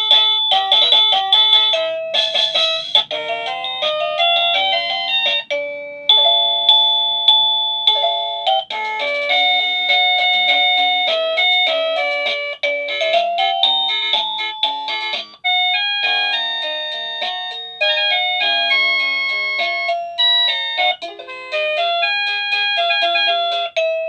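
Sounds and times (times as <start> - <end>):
electronic doorbell chime: 0.0 - 24.0.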